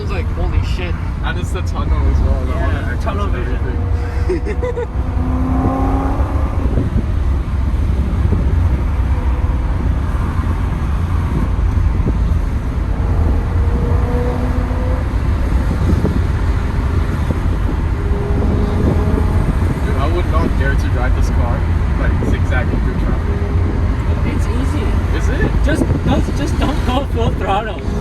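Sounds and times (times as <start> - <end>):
car engine droning: 0.0 - 28.0
road and tyre noise: 0.0 - 28.0.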